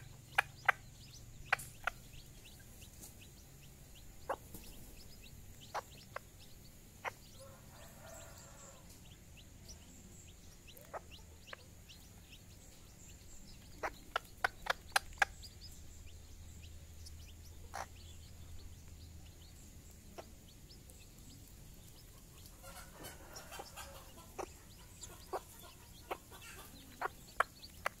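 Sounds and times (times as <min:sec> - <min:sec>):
hen clucking: 0:00.0 - 0:28.0.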